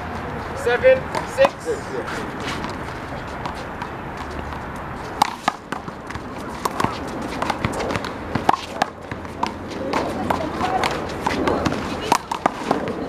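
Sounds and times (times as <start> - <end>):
footsteps scuffing court: 0.1 - 13.0.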